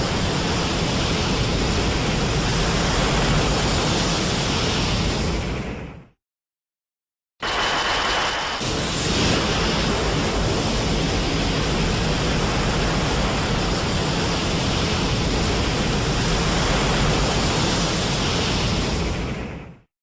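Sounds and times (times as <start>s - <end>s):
loud rushing noise with rumble: 0.0s - 6.0s, 7.4s - 19.8s.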